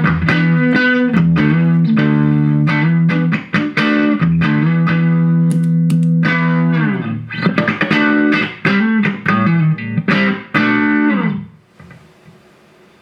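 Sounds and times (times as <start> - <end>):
electric guitar notes and chords: 0.0 - 11.6.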